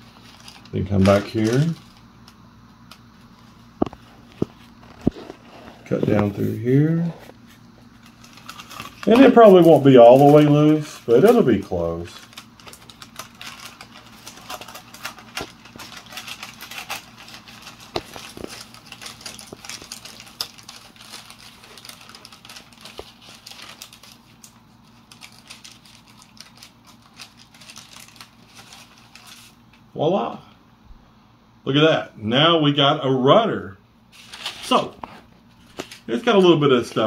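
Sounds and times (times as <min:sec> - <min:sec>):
paper crinkling and rustling: 0:00.0 - 0:29.9, 0:34.1 - 0:37.0.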